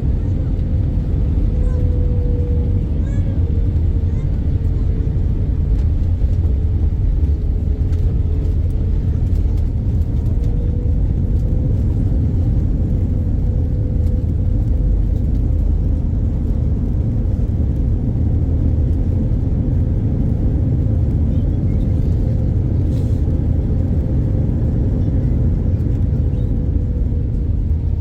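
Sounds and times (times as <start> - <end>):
airliner cabin rumble: 0.0 - 28.0.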